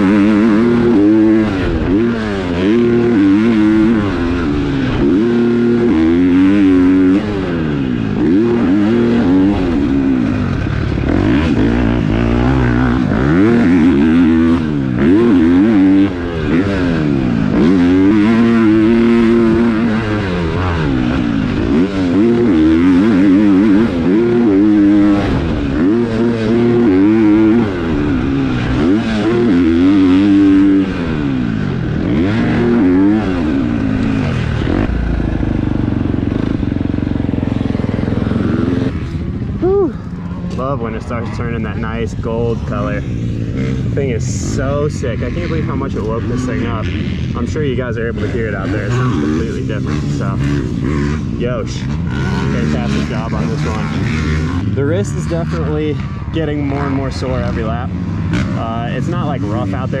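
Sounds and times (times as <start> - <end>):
motocross bike engine revving: 0.0 - 60.0.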